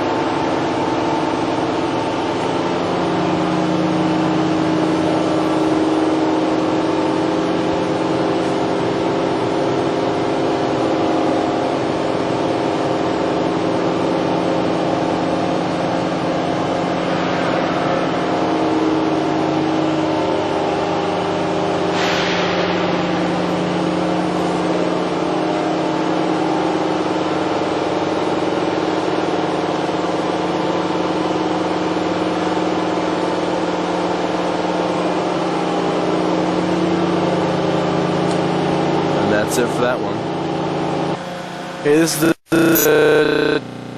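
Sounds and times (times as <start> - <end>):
machining center humming: 0.0 - 43.9.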